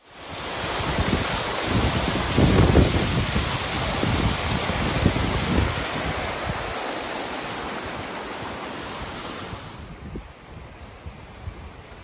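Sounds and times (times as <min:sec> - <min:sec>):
water rushing down rocks: 0:00.0 - 0:10.0
wind gusts on microphone: 0:00.2 - 0:12.0.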